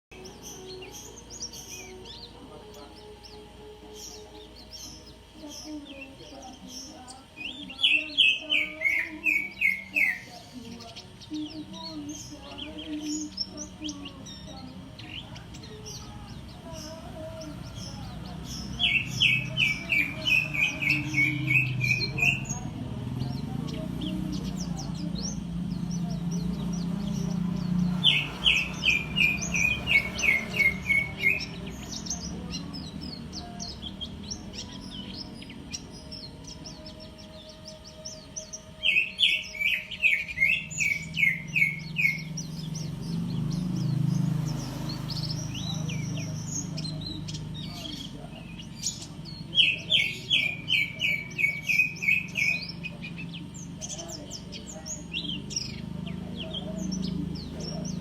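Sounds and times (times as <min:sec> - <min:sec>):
bird chirping song: 0:00.0 - 0:58.0
faint high twittering chirps: 0:00.0 - 0:58.0.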